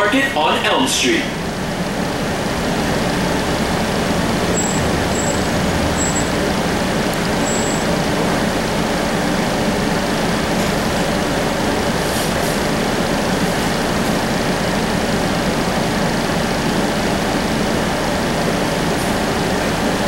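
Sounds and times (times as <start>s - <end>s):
streetcar cabin hum and rumble: 0.0s - 20.0s.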